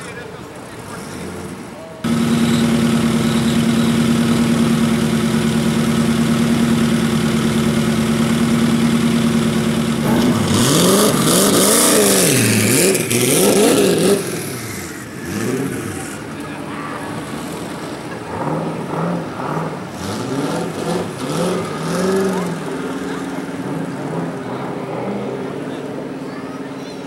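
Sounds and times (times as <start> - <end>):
car engine idling and revving: 0.0 - 26.8.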